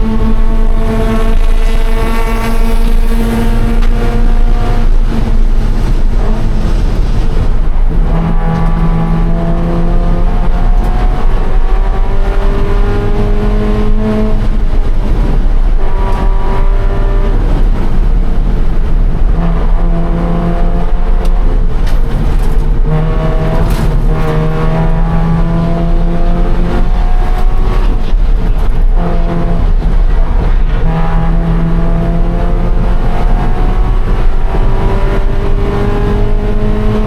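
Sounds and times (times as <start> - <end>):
car engine revving: 0.0 - 37.0
heavy low rumble: 0.0 - 37.0
road and wind noise: 0.0 - 37.0.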